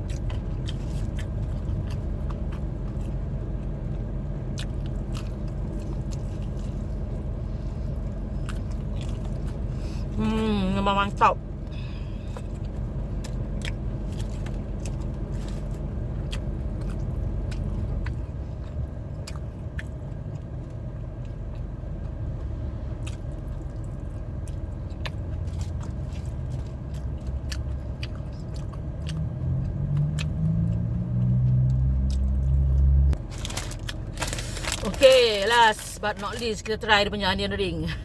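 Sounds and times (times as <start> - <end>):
chewing crispy fried chicken: 0.0 - 10.6, 11.6 - 36.6
low rumble: 0.0 - 38.0.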